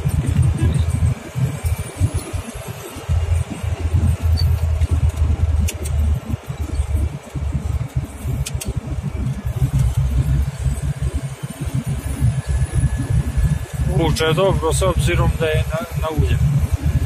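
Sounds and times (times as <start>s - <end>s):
car engine low rumble: 0.0s - 17.0s
road noise: 0.0s - 17.0s.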